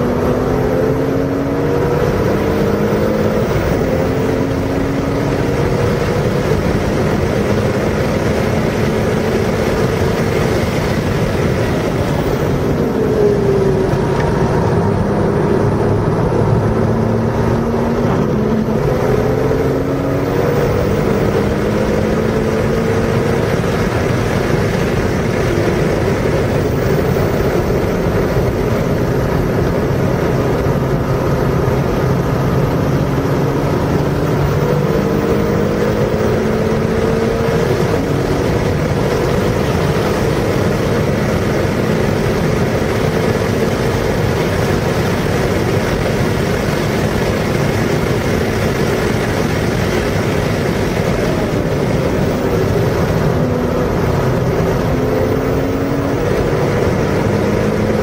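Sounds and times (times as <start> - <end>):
race car engine revving: 0.0 - 58.0
road and wind noise: 0.0 - 58.0.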